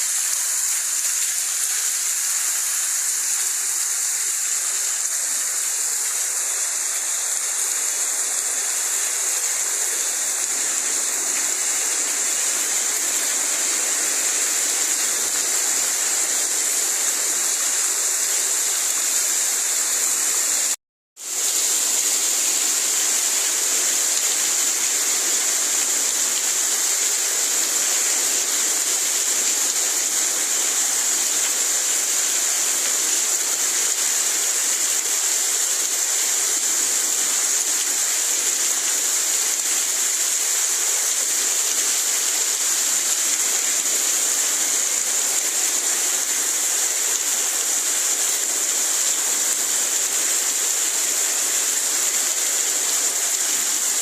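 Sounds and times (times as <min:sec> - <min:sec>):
rainwater rushing hiss: 0:00.0 - 0:54.0.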